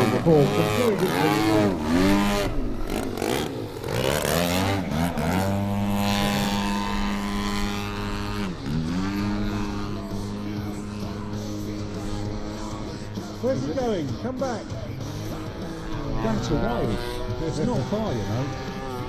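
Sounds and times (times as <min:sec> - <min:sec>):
model plane engine in flight: 0:00.0 - 0:19.0.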